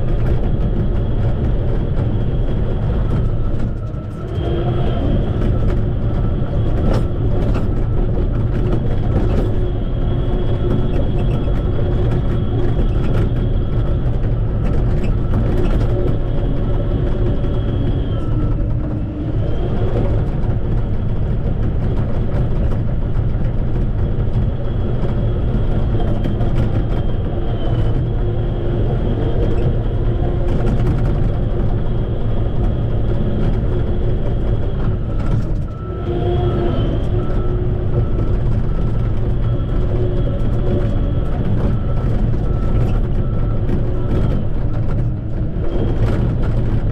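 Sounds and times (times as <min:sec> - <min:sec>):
bulldozer diesel engine running: 0:00.0 - 0:46.9
high steady whine: 0:00.0 - 0:46.9.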